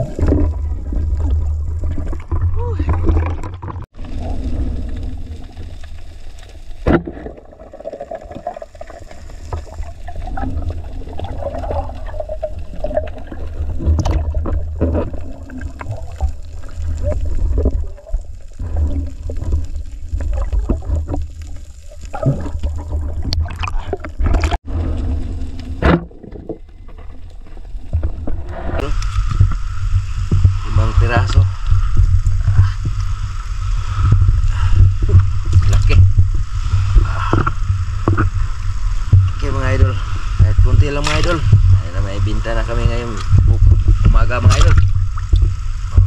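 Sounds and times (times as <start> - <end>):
underwater rumble and gurgles: 0.0 - 46.0.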